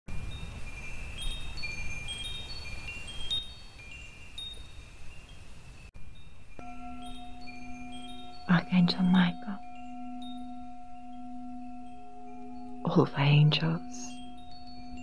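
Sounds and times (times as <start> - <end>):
chimes tinkling: 0.1 - 15.0.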